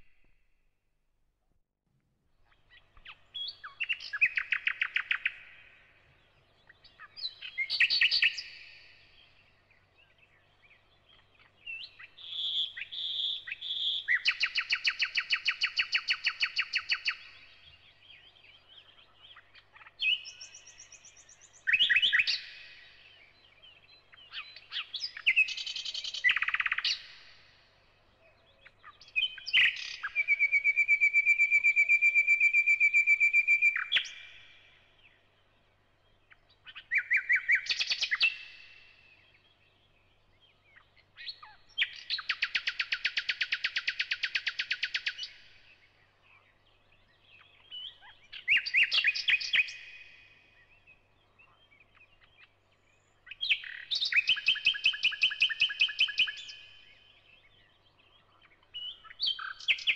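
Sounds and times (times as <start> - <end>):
bird singing: 2.4 - 59.9.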